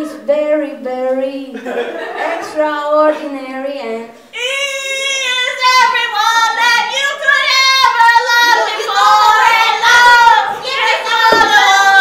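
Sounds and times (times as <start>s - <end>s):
woman singing into a microphone: 0.0s - 1.6s, 2.2s - 12.0s.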